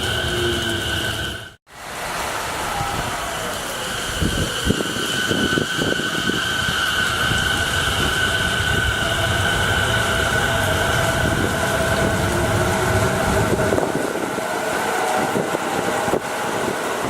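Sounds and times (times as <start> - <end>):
electric train motor whine: 0.0 - 1.6, 2.7 - 17.0
heavy rain hiss: 0.0 - 17.0
train rumble: 0.0 - 17.0.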